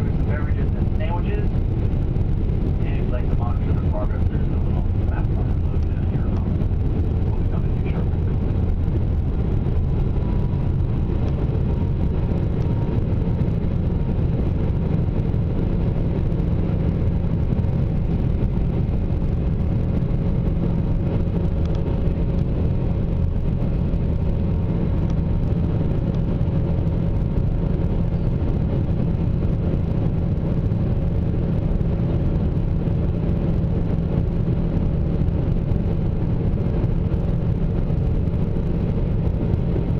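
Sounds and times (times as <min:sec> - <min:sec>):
jet engine rumble and rushing air: 0:00.0 - 0:39.9.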